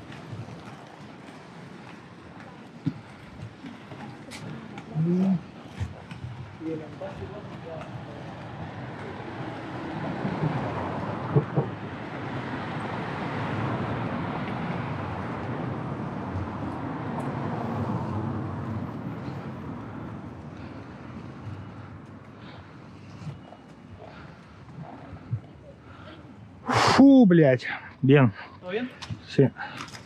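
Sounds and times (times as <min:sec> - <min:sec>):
skate wheels rolling on pavement: 0:00.0 - 0:26.4.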